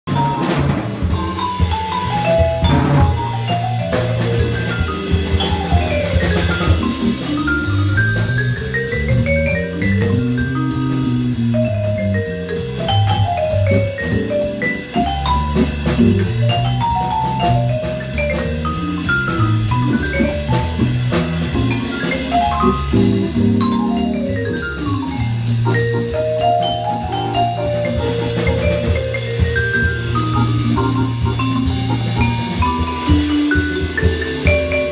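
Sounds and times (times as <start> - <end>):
drum kit: 0.1 - 34.9
low bass: 0.1 - 34.9
vibraphone runs: 0.1 - 34.9.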